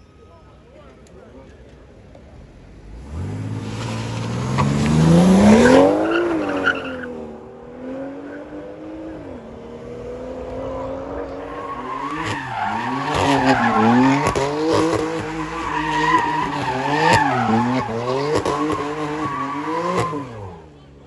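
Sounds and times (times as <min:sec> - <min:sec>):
car engine revving hard: 0:02.9 - 0:20.6.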